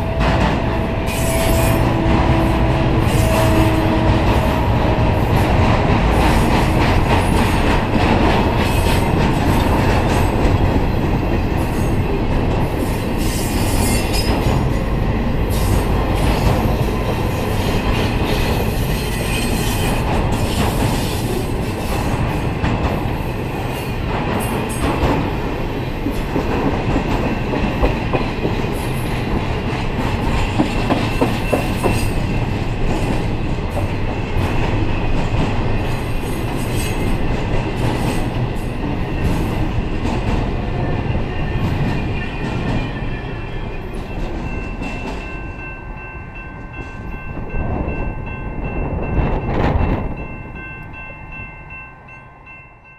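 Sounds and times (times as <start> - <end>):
train wheels on rails: 0.0 - 51.8.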